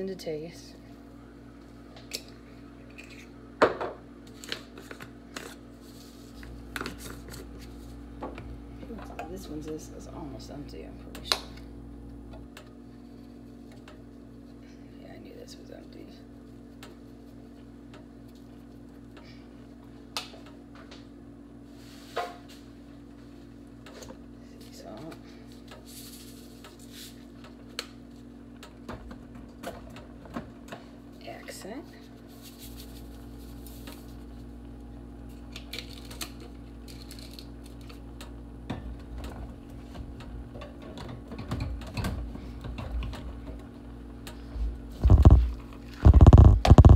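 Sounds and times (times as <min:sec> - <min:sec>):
low electrical hum: 0:00.0 - 0:46.9.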